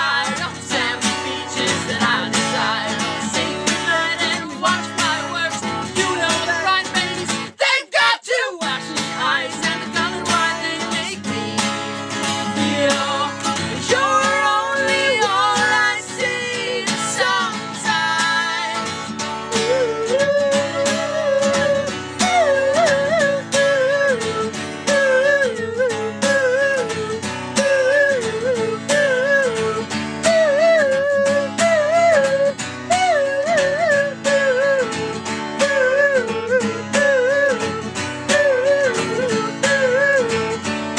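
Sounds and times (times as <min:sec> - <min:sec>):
voices singing: 0:00.0 - 0:40.6
acoustic guitar: 0:00.0 - 0:40.9.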